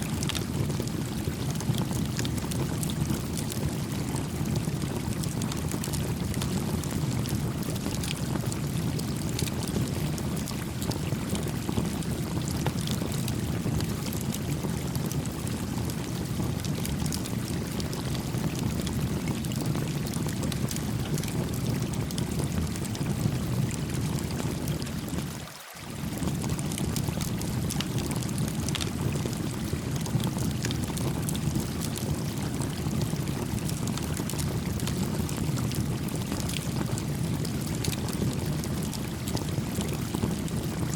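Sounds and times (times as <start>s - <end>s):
faint campfire crackles: 0.0s - 40.9s.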